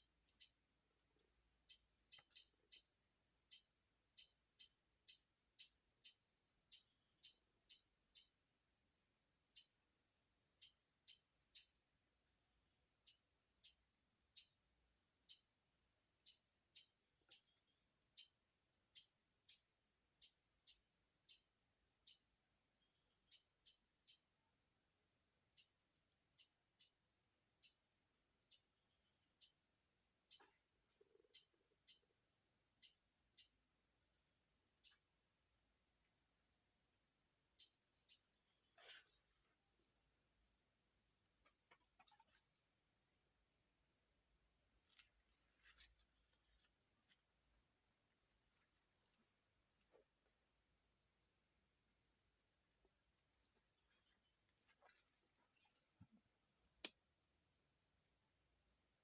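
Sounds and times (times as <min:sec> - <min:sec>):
crickets chorus: 0:00.0 - 0:59.0.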